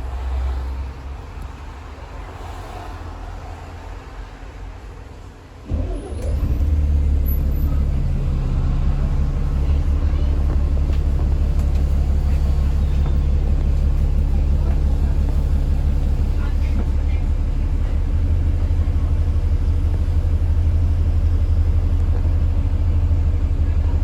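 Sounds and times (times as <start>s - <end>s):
bus engine low drone: 0.0s - 24.0s.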